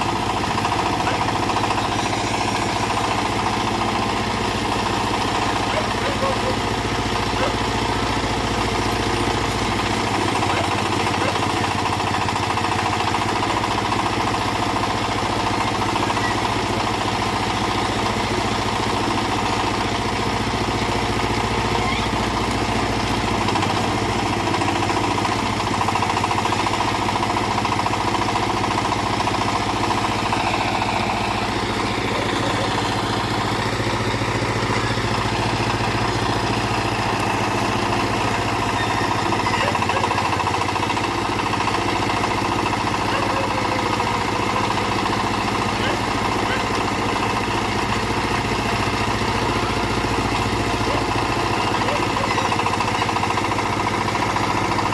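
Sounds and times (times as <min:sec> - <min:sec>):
backhoe engine running: 0:00.0 - 0:54.9.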